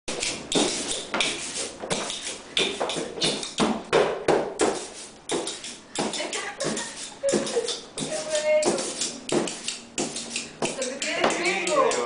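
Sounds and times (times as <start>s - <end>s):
hand slapping cardboard sheet: 0.1s - 12.0s.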